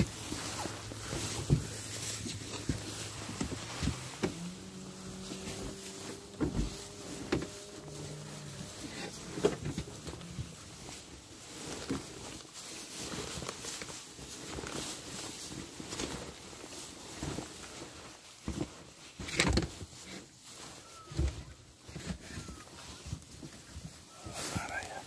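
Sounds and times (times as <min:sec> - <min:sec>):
netting rustling: 0:00.0 - 0:25.0.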